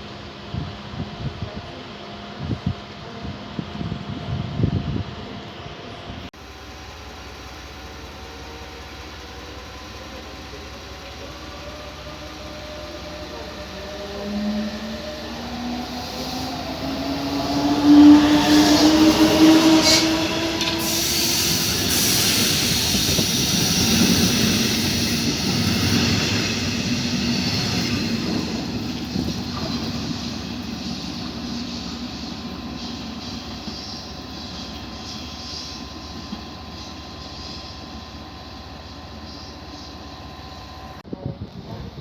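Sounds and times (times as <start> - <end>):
train rolling: 0.0 - 42.0
train whine: 0.0 - 42.0.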